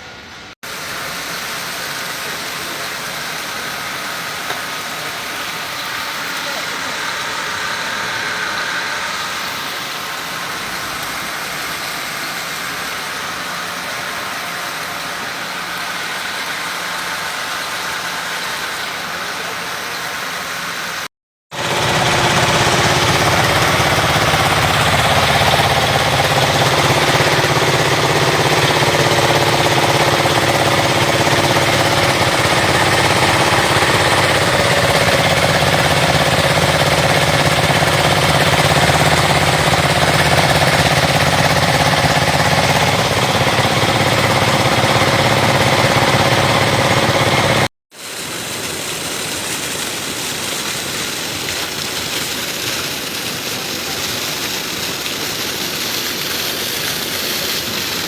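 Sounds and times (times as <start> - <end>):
drilling rig running: 0.0 - 47.7.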